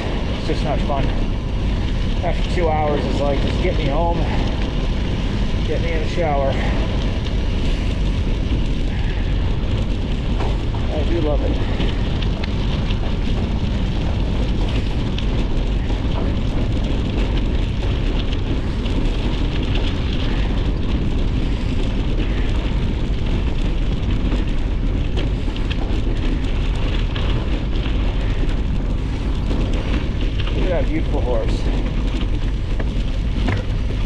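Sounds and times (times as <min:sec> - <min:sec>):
tyres crackling on gravel: 0:00.0 - 0:34.0
wind buffeting microphone: 0:00.0 - 0:34.0.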